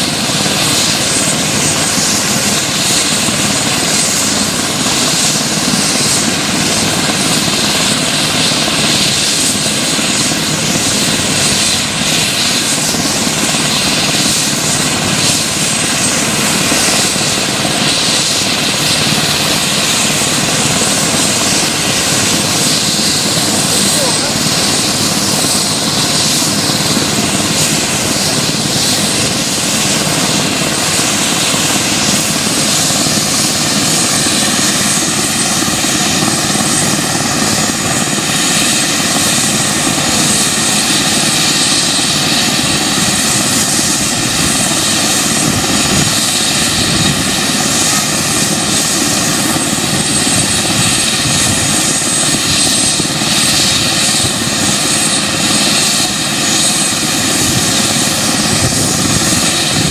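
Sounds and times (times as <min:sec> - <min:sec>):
helicopter turbine and rotor noise: 0:00.0 - 0:59.9.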